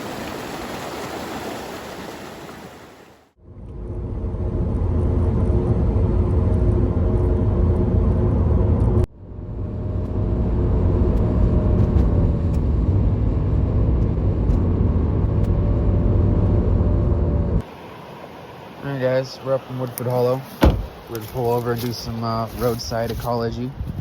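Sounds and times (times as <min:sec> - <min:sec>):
car engine and tyres rumbling: 0:03.4 - 0:24.0.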